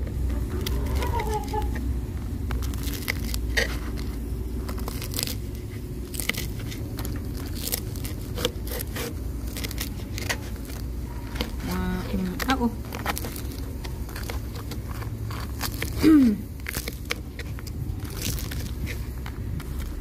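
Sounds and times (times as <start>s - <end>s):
steady low rumble: 0.0s - 8.6s, 9.2s - 20.0s
knife crunching crisp pork: 0.4s - 20.0s.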